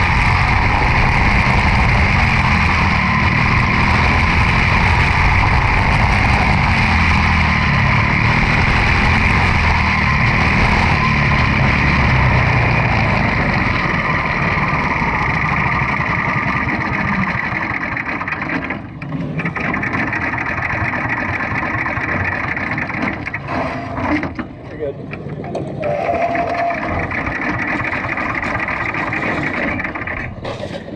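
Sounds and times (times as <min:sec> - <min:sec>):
race car engine running: 0:00.0 - 0:30.9.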